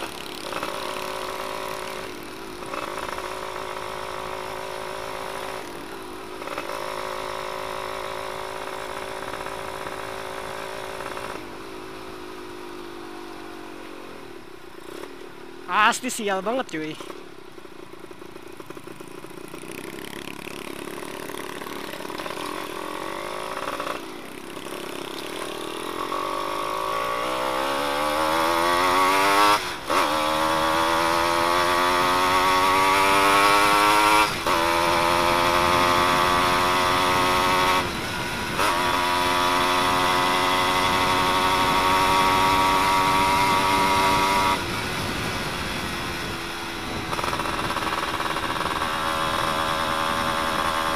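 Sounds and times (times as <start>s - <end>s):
two-stroke engine revving: 0.0s - 11.4s, 19.2s - 50.9s.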